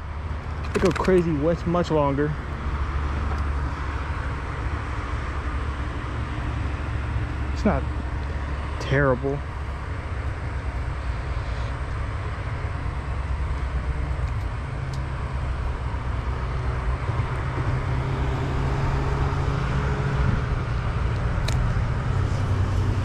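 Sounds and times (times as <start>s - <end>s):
road traffic noise: 0.0s - 23.0s
vehicle engine hum: 0.0s - 23.0s.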